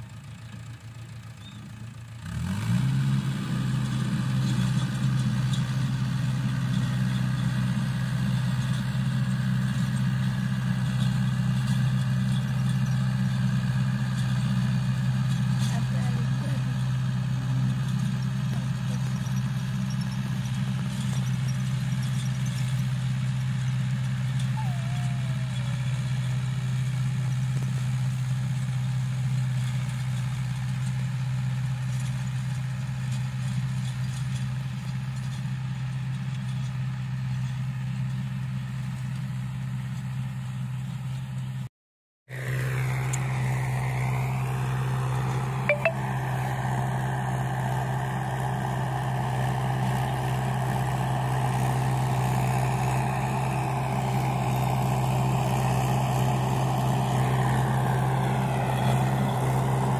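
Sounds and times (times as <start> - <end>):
tractor diesel engine under load: 0.0 - 41.7, 42.3 - 59.9.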